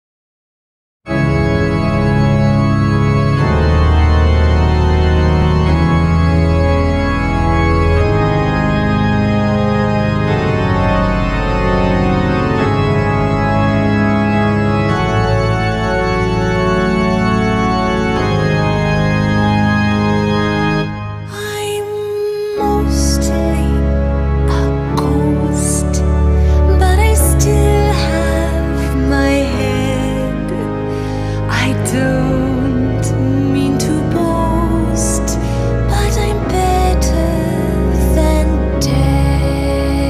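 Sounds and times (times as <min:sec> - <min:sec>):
sustained organ chords: 0:01.1 - 0:40.0.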